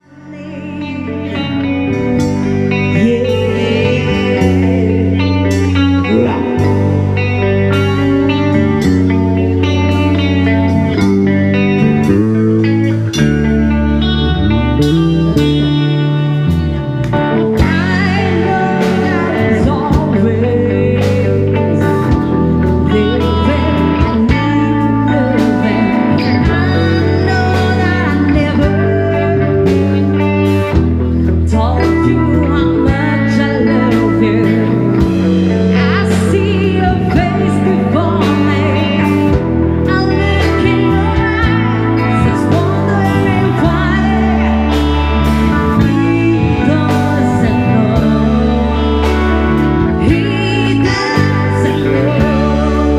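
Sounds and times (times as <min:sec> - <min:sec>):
live band playing: 0:00.0 - 0:52.9
person singing: 0:00.0 - 0:52.9.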